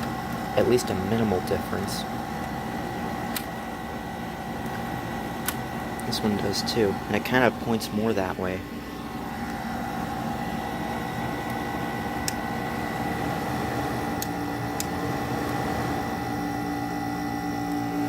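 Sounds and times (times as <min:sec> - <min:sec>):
air conditioner fan rushing: 0:00.0 - 0:18.0
steady hum: 0:00.0 - 0:18.0.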